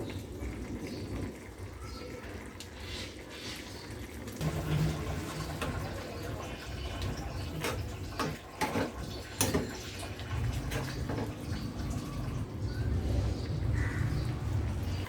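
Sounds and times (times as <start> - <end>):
pan simmering bubbling: 0.0 - 15.0.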